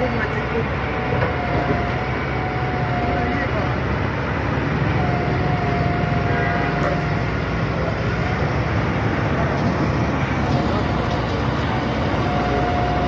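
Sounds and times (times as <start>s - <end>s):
excavator diesel engine rumbling: 0.0s - 13.0s.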